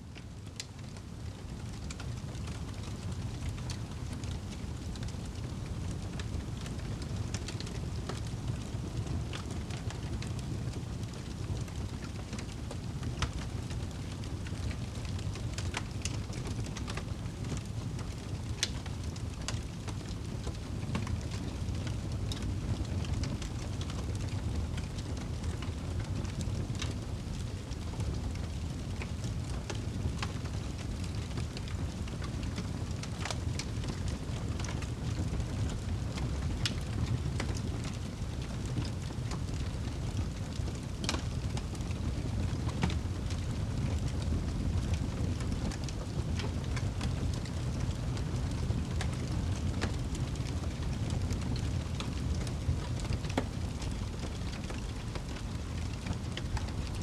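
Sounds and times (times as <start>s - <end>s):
wood fire crackling: 0.1s - 57.0s.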